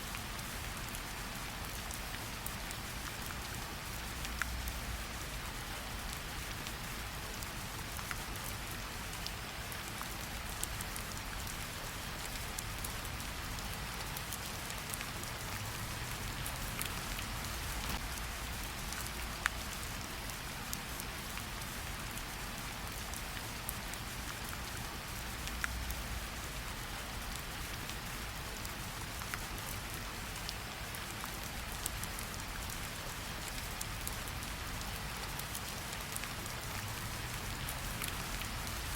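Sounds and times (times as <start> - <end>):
rain on tree leaves: 0.0 - 38.9.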